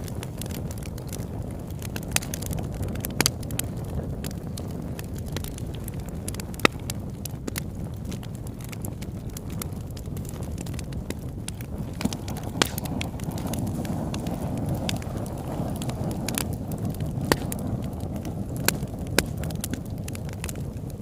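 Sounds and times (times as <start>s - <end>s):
campfire burning: 0.0s - 21.0s
fire crackles and pops: 0.0s - 21.0s.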